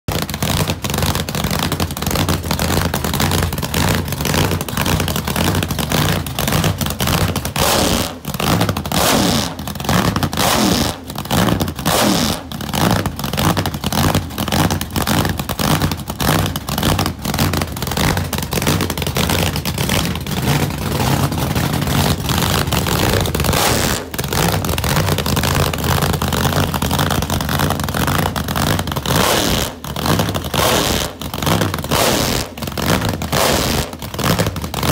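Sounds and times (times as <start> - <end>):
drag engine cackling idle: 0.1 - 34.9.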